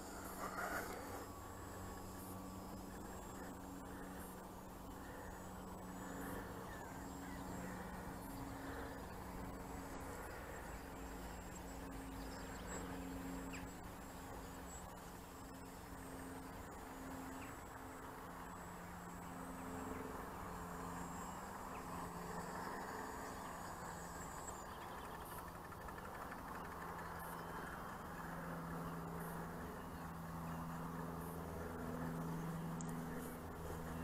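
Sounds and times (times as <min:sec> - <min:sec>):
model plane motor droning: 0:00.0 - 0:34.0.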